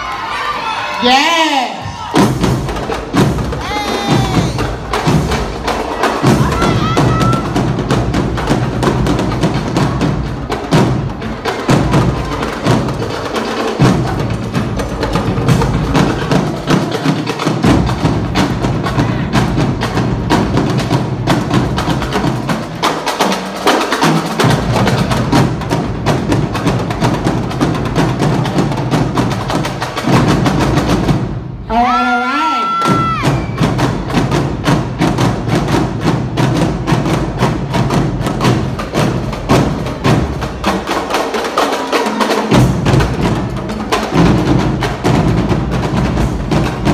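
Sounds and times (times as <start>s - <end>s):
marching drumline: 0.0s - 46.9s.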